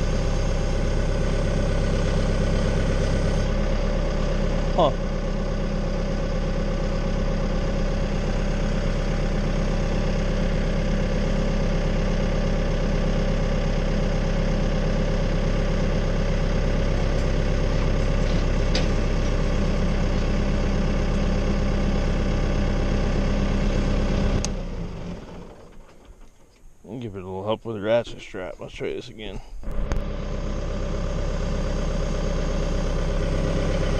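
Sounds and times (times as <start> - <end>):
tractor engine idling: 0.0 - 33.9.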